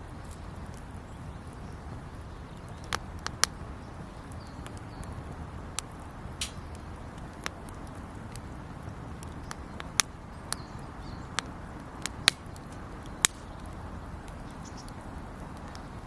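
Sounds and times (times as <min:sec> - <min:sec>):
campfire crackling pops: 0:00.0 - 0:16.0
low background rush: 0:00.0 - 0:16.0.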